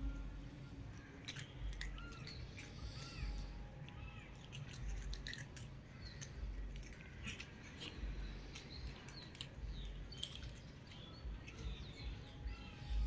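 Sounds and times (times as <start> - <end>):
bird chirping: 0.0 - 13.0
cats chewing: 0.0 - 13.0.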